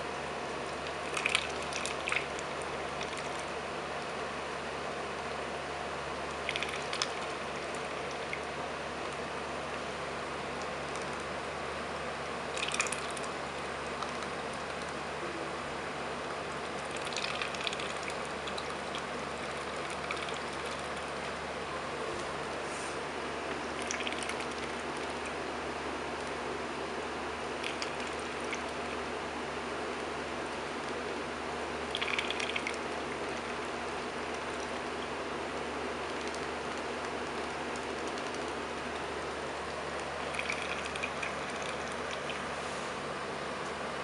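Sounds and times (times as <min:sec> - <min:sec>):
duckling slurping and splashing water: 0:00.0 - 0:05.4, 0:06.2 - 0:43.0.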